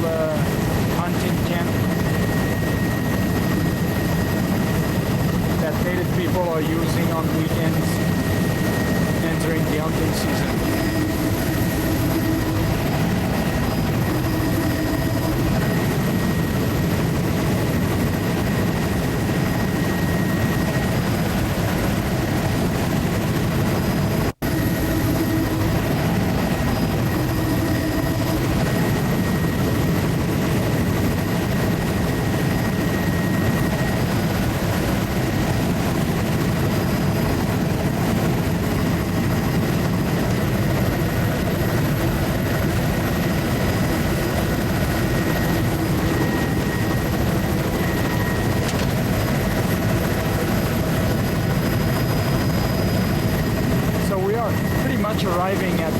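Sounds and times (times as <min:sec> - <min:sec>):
aircraft engine drone in cabin: 0:00.0 - 0:55.9.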